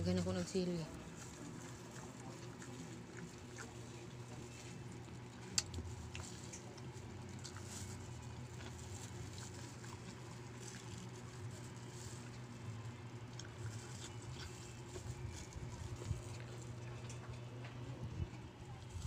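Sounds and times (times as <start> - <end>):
low steady hum: 0.0 - 19.0
chewing crunchy vegetables: 0.1 - 19.0.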